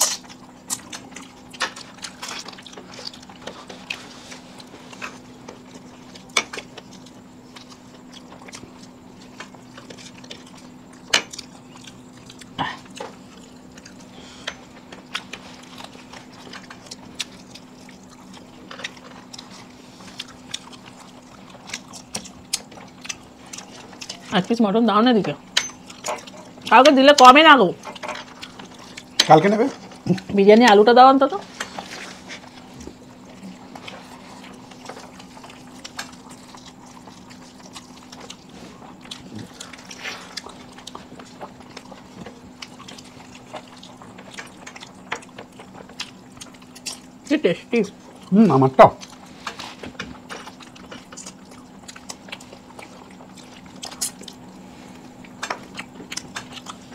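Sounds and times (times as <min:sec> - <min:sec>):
eating clicks and smacks: 0:00.0 - 0:04.0, 0:04.6 - 0:24.4, 0:32.4 - 0:47.2, 0:49.0 - 0:56.9
people chewing food: 0:00.0 - 0:56.9
steady low hum: 0:00.0 - 0:56.9.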